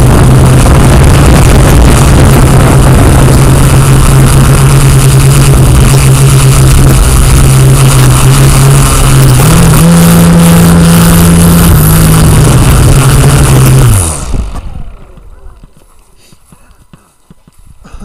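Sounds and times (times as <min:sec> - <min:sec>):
small engine revving: 0:00.0 - 0:16.1.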